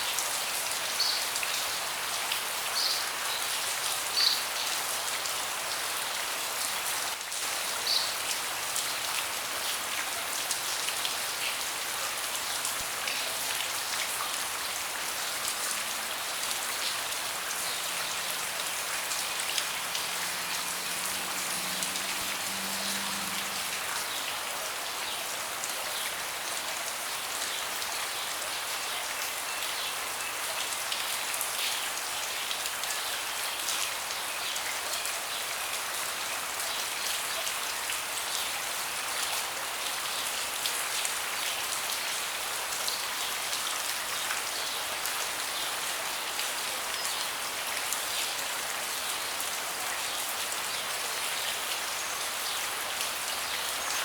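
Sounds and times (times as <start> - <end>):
rain falling on a deck: 0.0 - 54.0.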